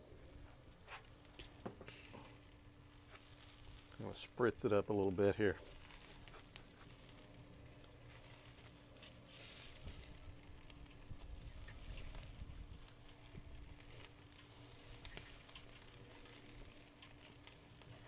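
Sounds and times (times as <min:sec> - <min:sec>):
butter sizzling and crackling: 0:01.0 - 0:18.0.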